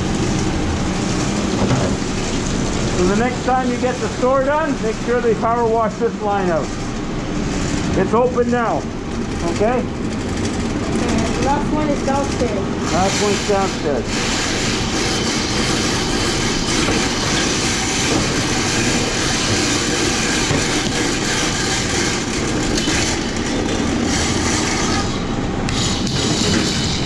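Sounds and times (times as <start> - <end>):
drain cleaning machine cable whirring: 0.0 - 27.0.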